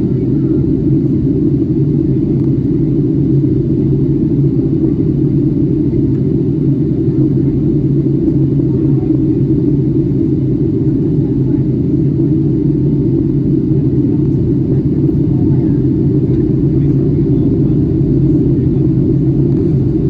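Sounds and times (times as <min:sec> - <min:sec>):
airliner cabin engine rumble: 0:00.0 - 0:20.0
constant low hum: 0:00.0 - 0:20.0.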